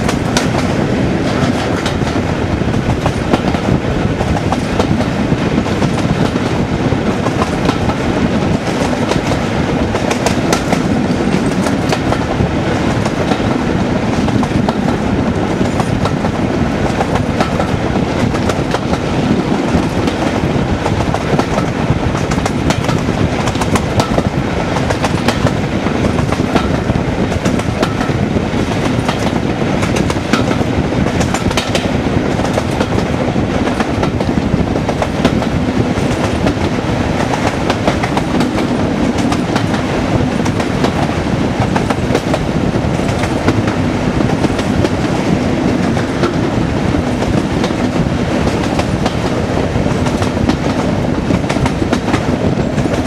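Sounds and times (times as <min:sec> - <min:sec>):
diesel locomotive engine working: 0:00.0 - 0:53.0.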